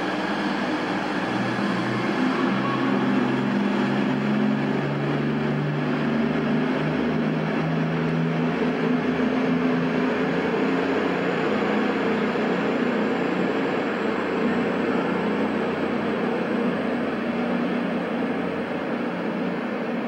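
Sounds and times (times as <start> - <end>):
train diesel engines droning: 0.0 - 20.0.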